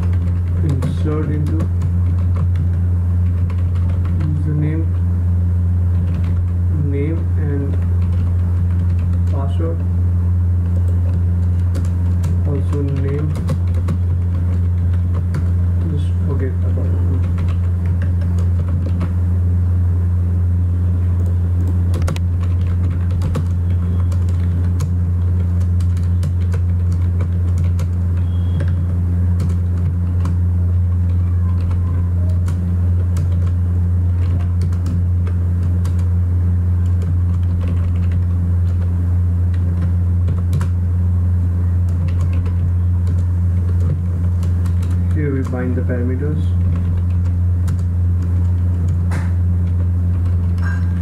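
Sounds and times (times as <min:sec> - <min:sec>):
loud steady low hum: 0:00.0 - 0:51.0.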